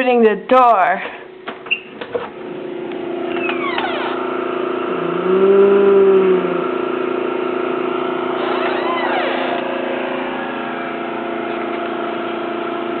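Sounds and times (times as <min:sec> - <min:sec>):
snowblower humming: 0:02.5 - 0:13.0.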